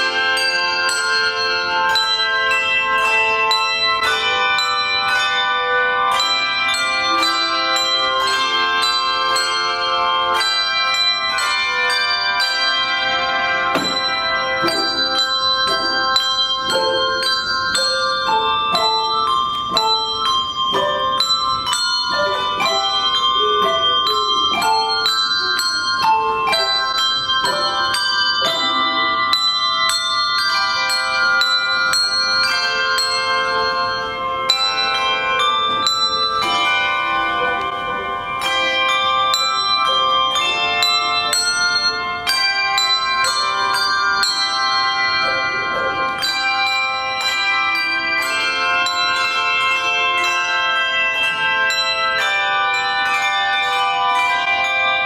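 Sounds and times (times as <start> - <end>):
handbell choir ringing: 0.0 - 55.0.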